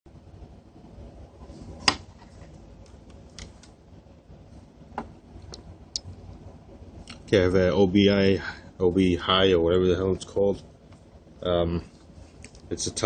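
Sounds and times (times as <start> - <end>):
low background rumble: 0.1 - 13.0.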